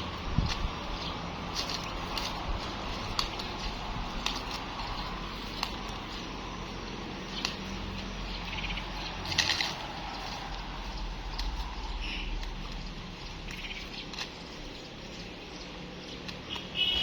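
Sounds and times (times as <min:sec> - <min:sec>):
leaves snapping off stalks: 0:00.0 - 0:15.5, 0:16.1 - 0:17.0
leaf rustling: 0:00.0 - 0:17.0.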